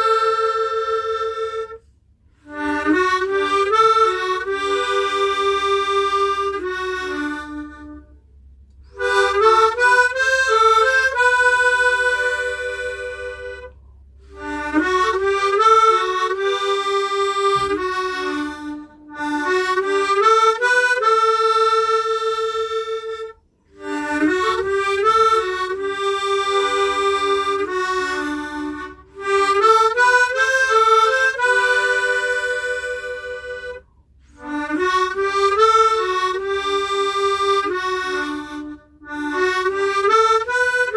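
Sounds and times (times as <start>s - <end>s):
tremolo harmonica melody: 0.0s - 40.9s.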